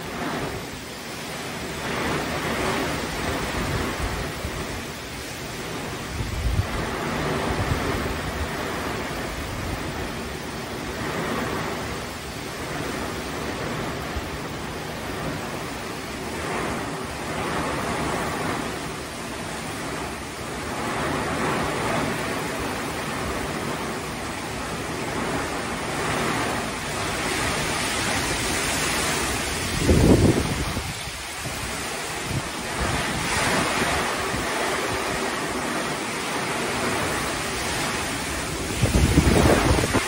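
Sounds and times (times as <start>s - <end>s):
heavy rain pouring: 0.0s - 40.0s
wind gust on microphone: 0.0s - 40.0s.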